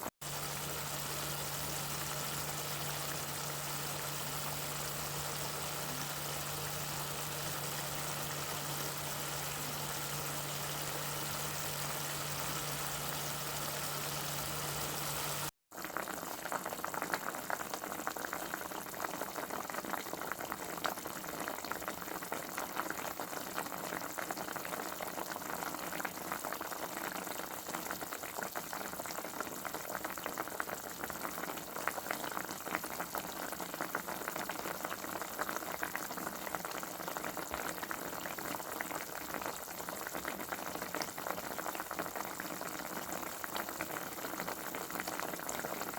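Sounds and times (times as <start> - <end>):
food bubbling at a boil: 0.0 - 45.9.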